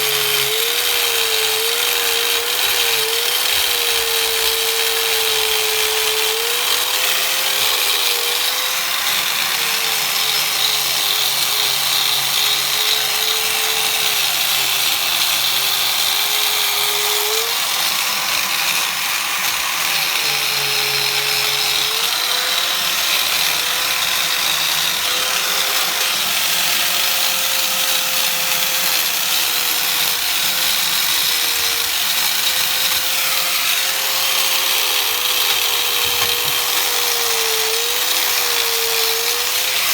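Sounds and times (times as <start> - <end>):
angle grinder whining: 0.0 - 39.9.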